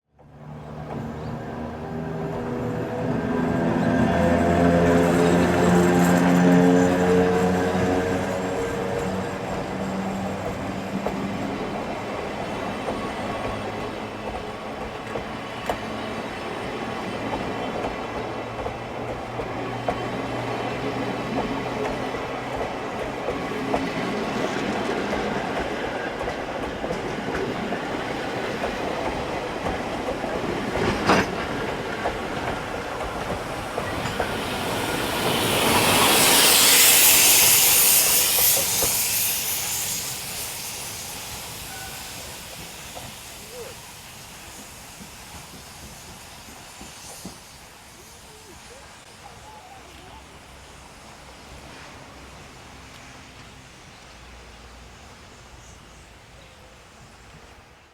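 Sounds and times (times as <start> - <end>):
train wheels clacking over rail joints: 0.2 - 50.1
high-pitched hiss: 7.7 - 57.8.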